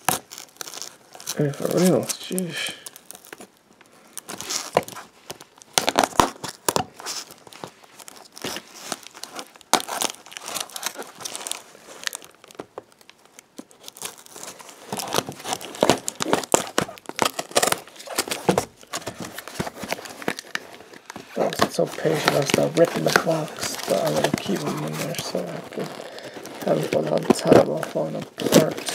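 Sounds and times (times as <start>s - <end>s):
packing tape crinkling and tearing: 0.0s - 28.9s.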